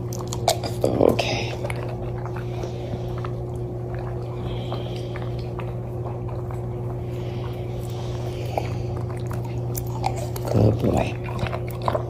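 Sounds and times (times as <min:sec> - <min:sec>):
appliance electrical hum: 0:00.0 - 0:12.0.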